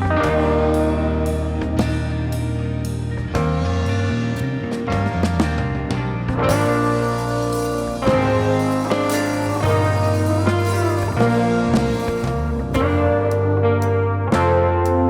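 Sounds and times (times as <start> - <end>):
guitar-led music with bass: 0.0 - 15.0.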